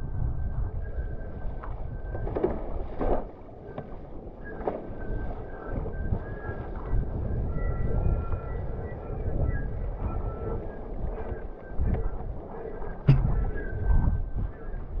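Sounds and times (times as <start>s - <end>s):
wind buffeting microphone: 0.0s - 15.0s
faint high whistle: 0.1s - 2.2s, 4.4s - 14.9s.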